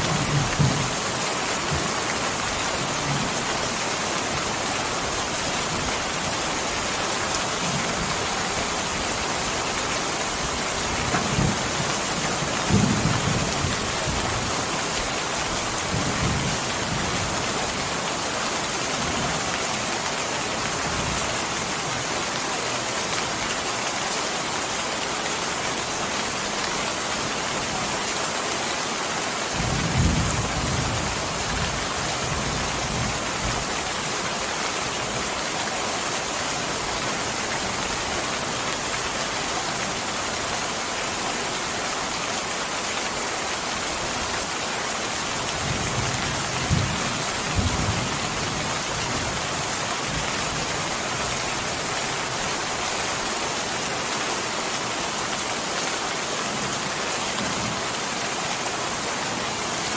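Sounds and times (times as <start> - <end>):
dense rain falling: 0.0 - 59.9.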